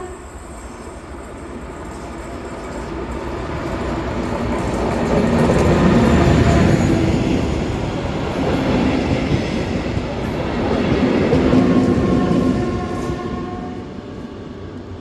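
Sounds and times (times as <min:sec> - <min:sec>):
diesel locomotive engine drone: 0:00.0 - 0:15.0
wheels rumbling on rails: 0:00.2 - 0:15.0.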